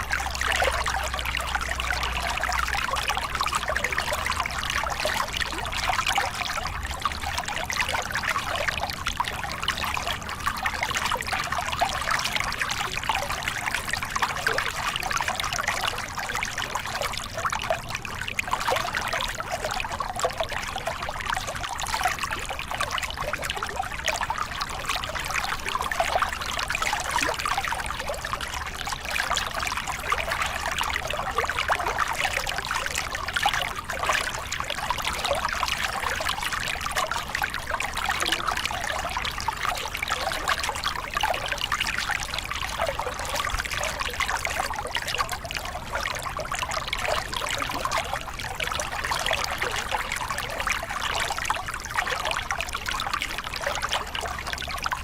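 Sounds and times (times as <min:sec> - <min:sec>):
water splashing over rocks: 0:00.0 - 0:55.0.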